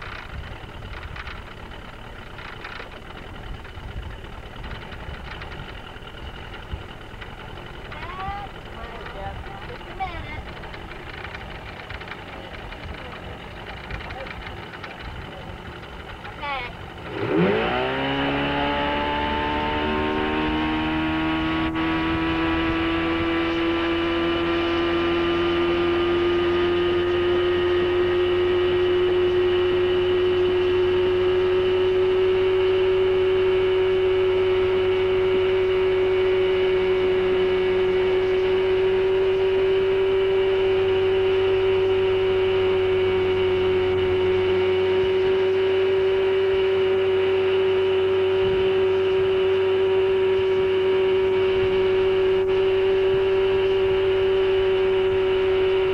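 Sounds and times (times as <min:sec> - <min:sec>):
boat engine running: 0:00.0 - 0:55.9
wind: 0:00.0 - 0:55.9.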